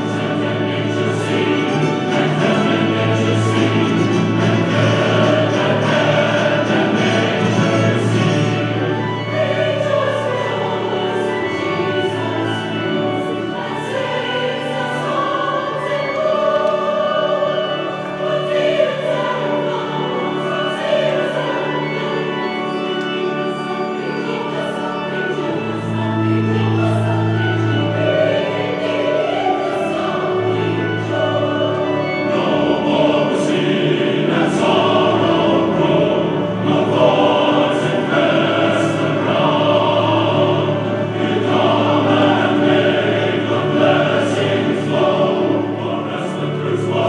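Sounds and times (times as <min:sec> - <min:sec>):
choir singing sacred music: 0:00.0 - 0:47.0.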